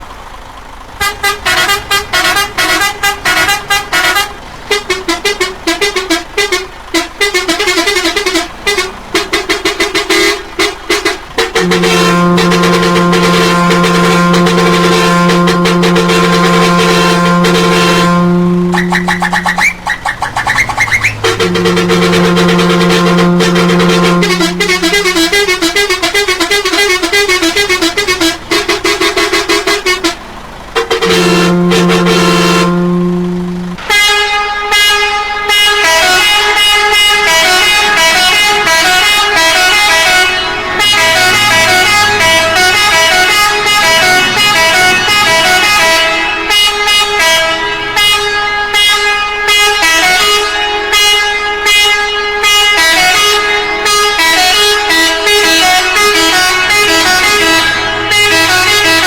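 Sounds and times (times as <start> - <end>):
musical air horn playing tune: 1.0 - 59.0.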